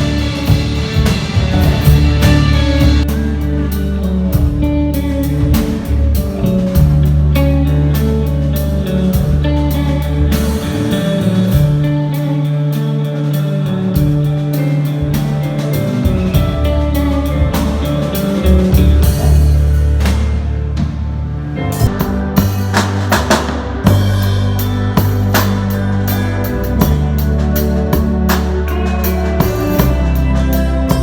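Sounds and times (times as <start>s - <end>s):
bass notes: 0.0s - 31.0s
drum kit beat with cymbals: 0.0s - 31.0s
guitar: 0.0s - 31.0s.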